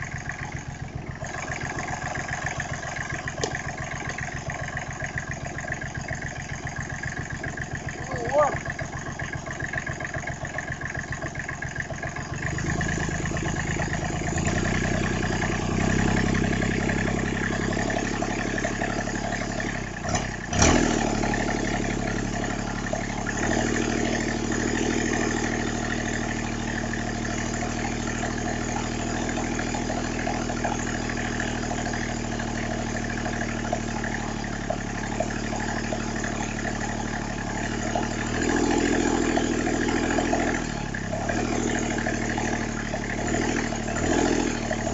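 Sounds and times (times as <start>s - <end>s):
small diesel engine running: 0.0s - 44.9s.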